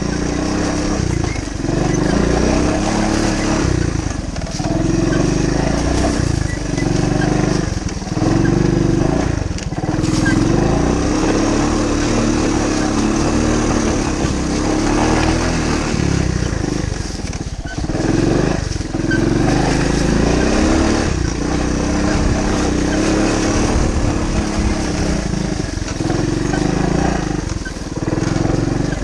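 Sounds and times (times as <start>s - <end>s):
small four-stroke engine running: 0.0s - 29.0s.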